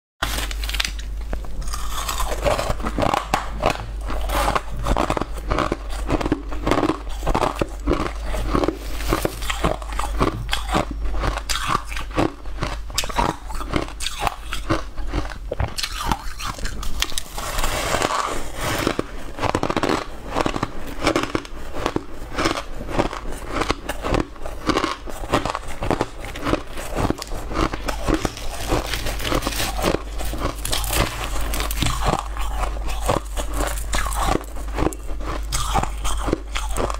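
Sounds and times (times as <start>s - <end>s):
ice being chewed: 0.3s - 36.9s.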